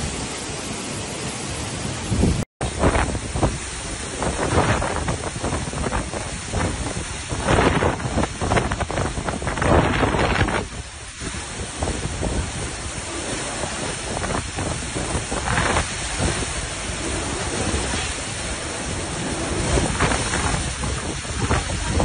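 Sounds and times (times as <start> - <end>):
heavy rain: 0.0 - 22.0
strong wind gusting: 0.0 - 22.0.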